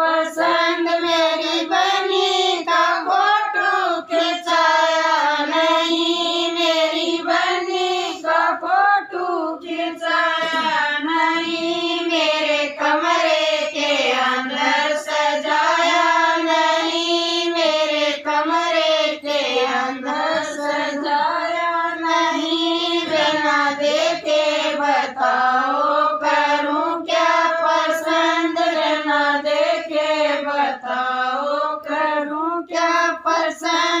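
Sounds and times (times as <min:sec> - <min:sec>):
women singing folk song: 0:00.0 - 0:34.0.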